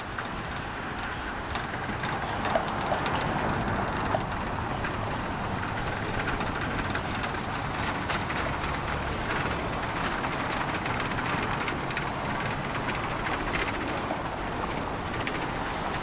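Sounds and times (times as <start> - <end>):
road traffic rumble and hiss: 0.0 - 16.0.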